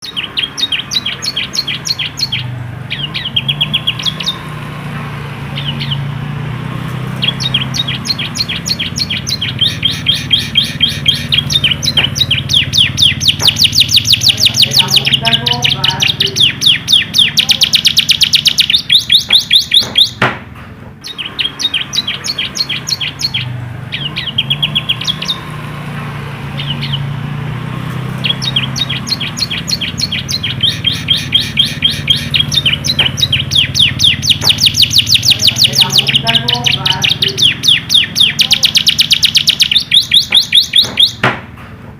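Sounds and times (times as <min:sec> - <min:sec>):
canary singing rapid trills: 0:00.0 - 0:20.3, 0:21.0 - 0:41.3.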